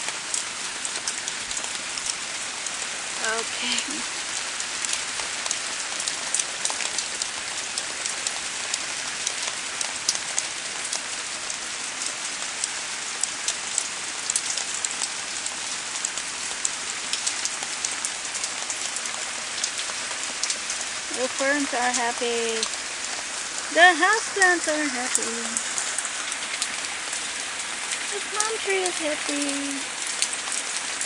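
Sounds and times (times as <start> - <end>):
steady rain with dripping patter: 0.0 - 31.0.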